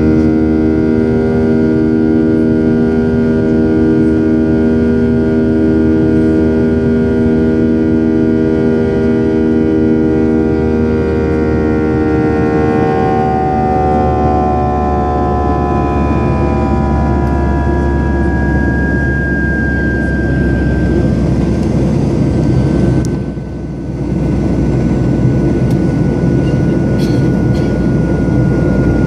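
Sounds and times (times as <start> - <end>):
jet engine drone in cabin: 0.0 - 29.0.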